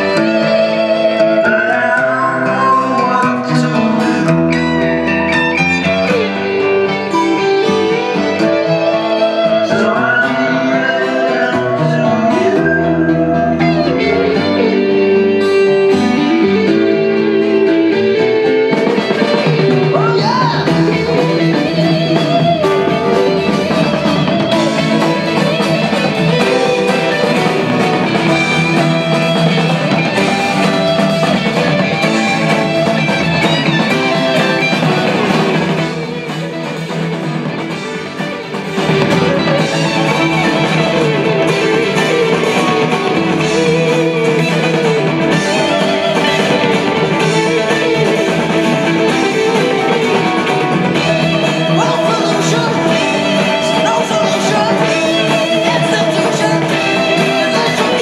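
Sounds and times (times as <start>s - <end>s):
rock music with guitar and drums: 0.0s - 58.0s.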